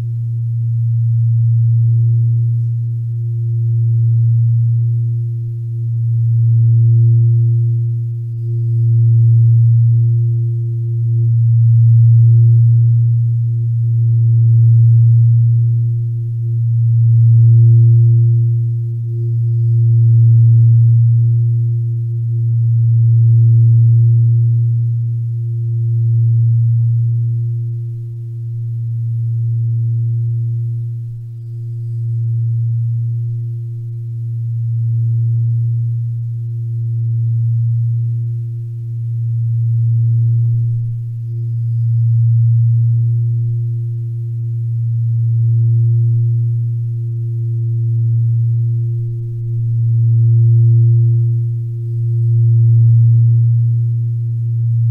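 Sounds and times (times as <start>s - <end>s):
deep humming drone: 0.0s - 54.9s.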